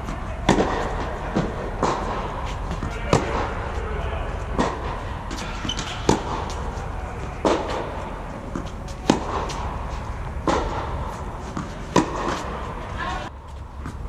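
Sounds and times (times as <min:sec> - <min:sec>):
tennis racket striking ball: 0:00.0 - 0:13.1.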